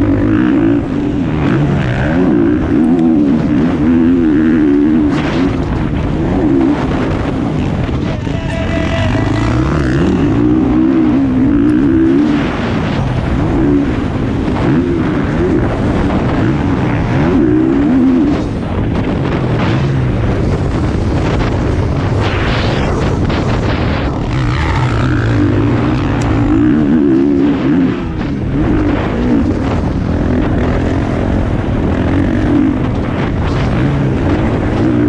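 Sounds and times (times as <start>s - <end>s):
motocross bike engine revving: 0.0s - 35.0s
wind noise on microphone: 0.0s - 35.0s.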